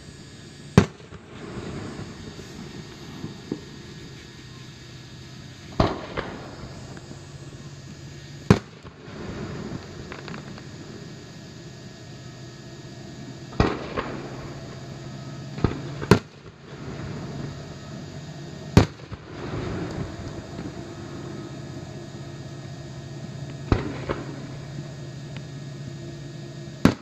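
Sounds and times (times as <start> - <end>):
fireworks bursting with bangs: 0.0 - 11.5, 13.2 - 27.0.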